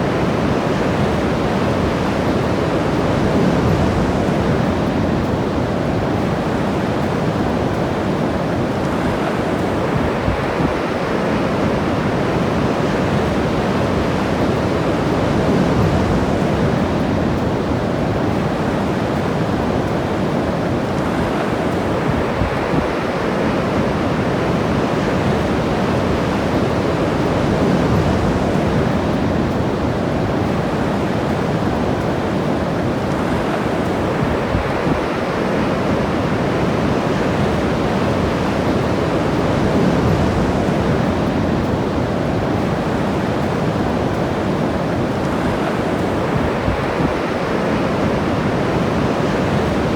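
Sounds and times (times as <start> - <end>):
ocean surf breaking: 0.0 - 49.9
wind on microphone: 0.0 - 49.9.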